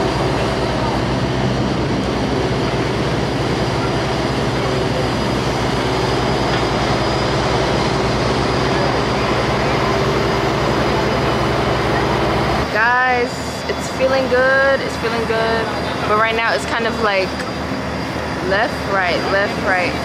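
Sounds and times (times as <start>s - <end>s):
ship engines throbbing: 0.0s - 20.0s.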